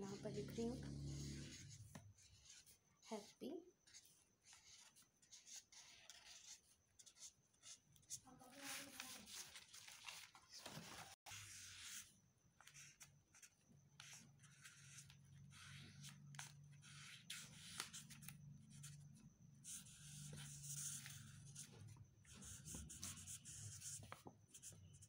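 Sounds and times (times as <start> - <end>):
marker pen scratching on paper: 0.0 - 9.5, 11.2 - 19.0, 19.6 - 25.0.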